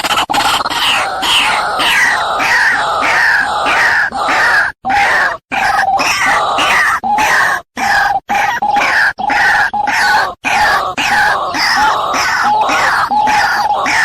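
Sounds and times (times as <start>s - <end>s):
waterhen harsh croaking call: 0.0s - 14.0s.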